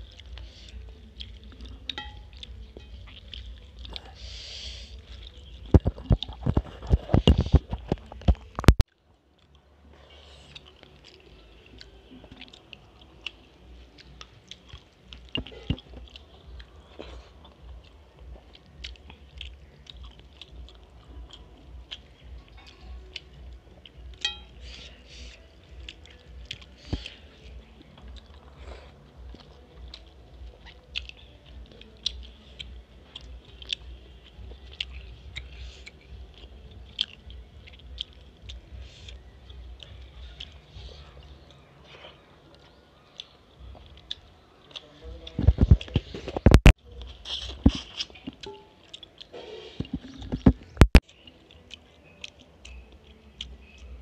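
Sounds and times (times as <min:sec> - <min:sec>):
low steady hum: 0:00.0 - 0:54.0
wet chewing and mouth smacks: 0:00.0 - 0:54.0.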